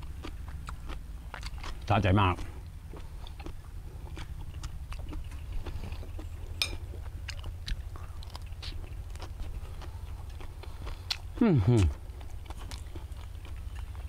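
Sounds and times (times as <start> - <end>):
man chewing crunchy food: 0.0 - 14.0
steady low hum: 0.0 - 14.0.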